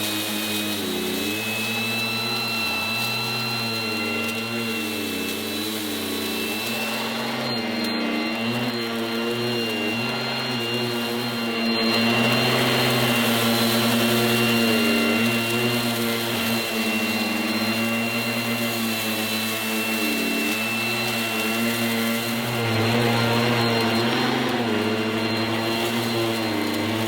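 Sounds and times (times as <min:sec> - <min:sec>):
handheld vacuum cleaner whining: 0:00.0 - 0:27.0.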